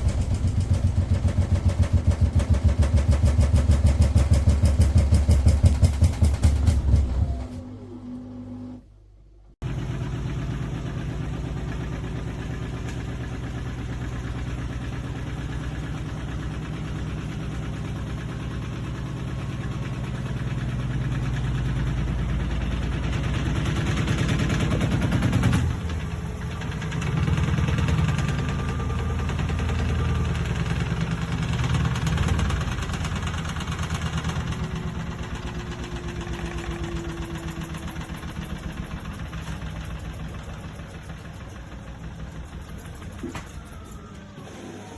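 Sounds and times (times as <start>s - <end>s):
washing machine humming and pulsing: 0.0s - 44.9s.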